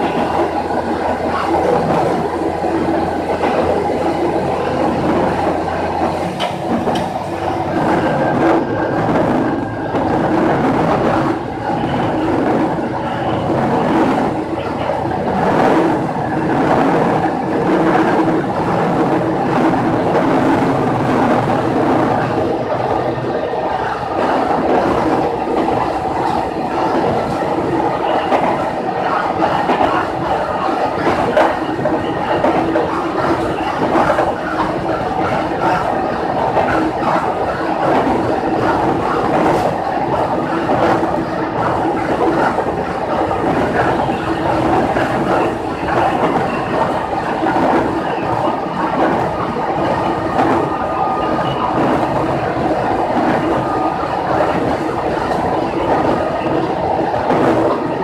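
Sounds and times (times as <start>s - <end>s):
railcar engine and running noise: 0.0s - 58.0s
wheels clacking over rail joints: 0.0s - 58.0s.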